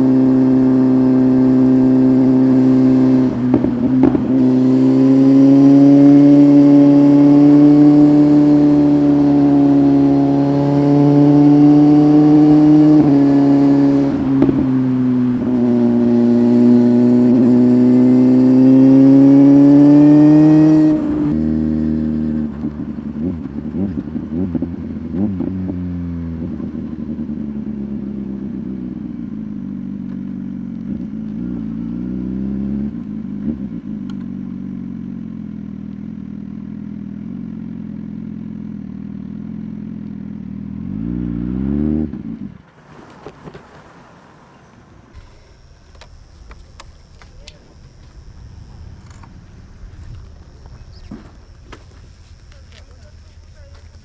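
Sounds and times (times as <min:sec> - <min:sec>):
exhaust crackles on overrun: 0:00.0 - 0:54.0
motorcycle engine revving: 0:00.0 - 0:54.0.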